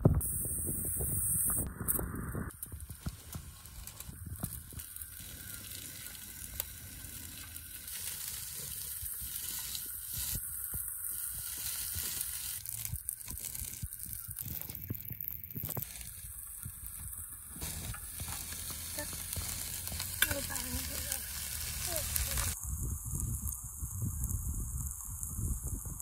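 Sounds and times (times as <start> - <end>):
chicken wings sizzling: 0.2 - 26.0
small pops: 1.4 - 26.0.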